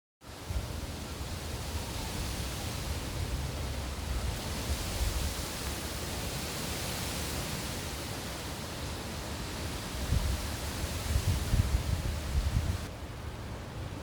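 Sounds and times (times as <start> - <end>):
rain hiss: 0.2 - 14.0
wind buffeting microphone: 0.3 - 7.8, 9.5 - 14.0.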